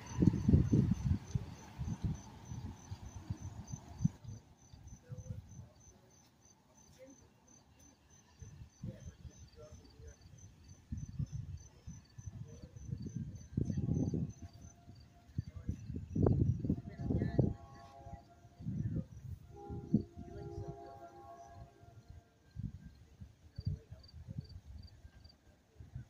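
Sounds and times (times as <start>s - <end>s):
wind rumbling on microphone: 0.0s - 5.9s, 8.4s - 26.0s
insect chirping: 0.0s - 23.0s, 23.6s - 25.3s.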